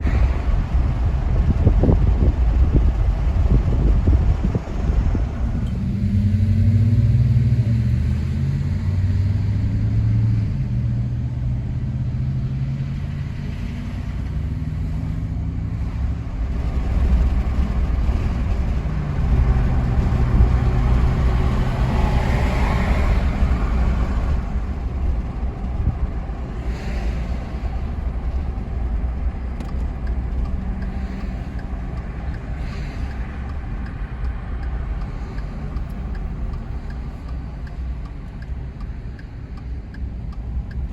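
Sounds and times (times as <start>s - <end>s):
engine rumbling: 0.0s - 40.9s.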